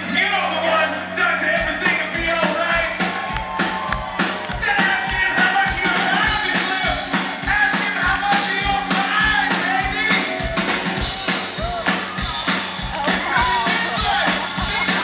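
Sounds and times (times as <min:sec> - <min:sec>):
drum kit beat: 0:01.6 - 0:15.0.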